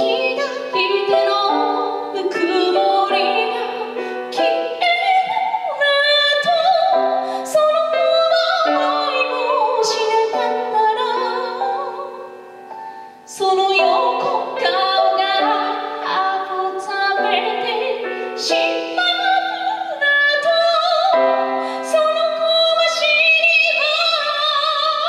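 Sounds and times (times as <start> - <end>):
woman singing with vibrato: 0.0 - 12.4, 13.2 - 25.0
grand piano: 0.0 - 25.0.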